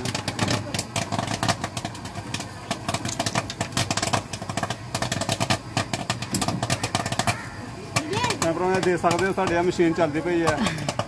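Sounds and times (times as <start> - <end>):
popcorn clicking and crackling: 0.0 - 11.0
popcorn machine motor hum: 0.0 - 11.0.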